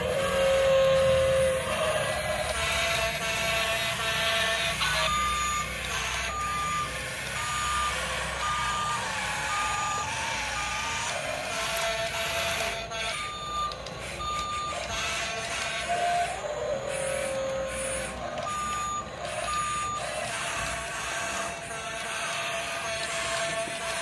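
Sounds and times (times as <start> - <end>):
reversing alarm beeps: 0.0 - 24.0.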